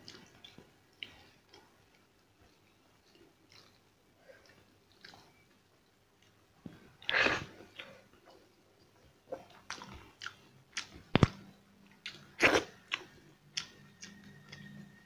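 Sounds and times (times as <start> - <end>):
person chewing food: 0.0 - 5.5, 7.0 - 14.9.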